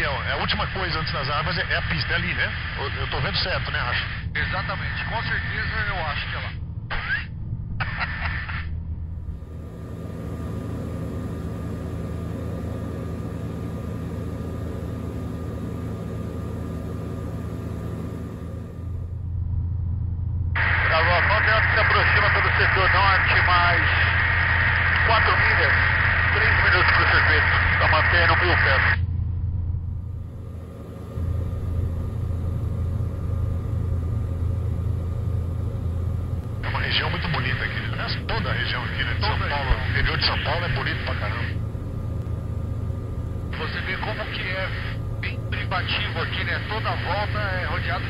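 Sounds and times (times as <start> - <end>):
light aircraft engine droning: 0.0 - 48.0.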